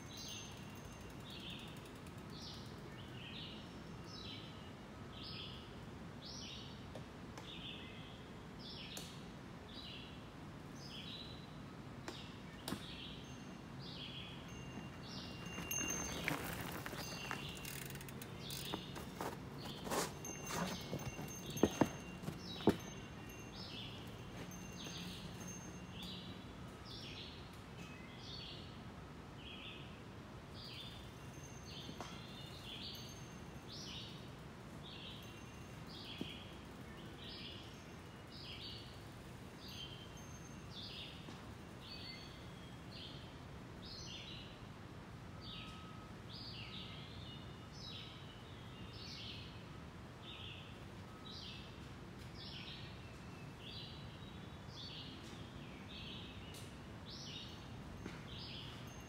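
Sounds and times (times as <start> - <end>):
faint outdoor hiss: 0.0 - 59.0
songbirds chirping: 0.0 - 59.0.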